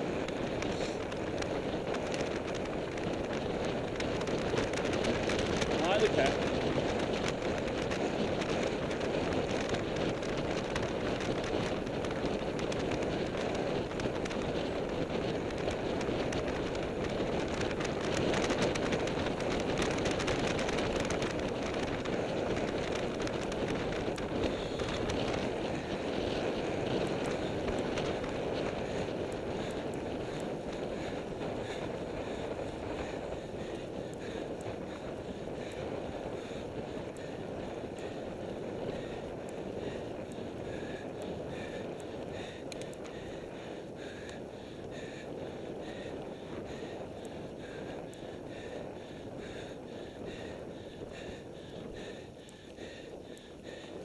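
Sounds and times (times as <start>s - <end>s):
fine rattling ticks: 0.0s - 54.0s
tyre road noise: 0.0s - 54.0s
wind rushing on microphone: 0.0s - 54.0s.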